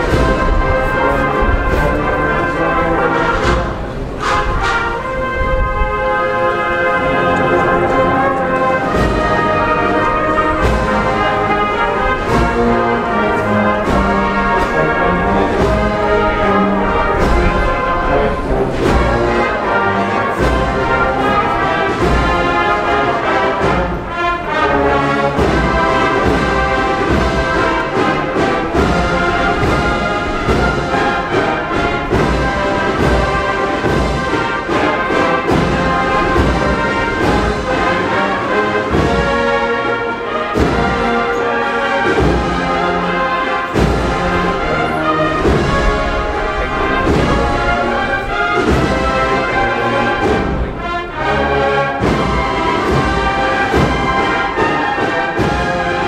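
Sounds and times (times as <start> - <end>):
steady drum beat: 0.0 - 5.3, 6.5 - 56.0
brass band playing a march: 0.0 - 56.0.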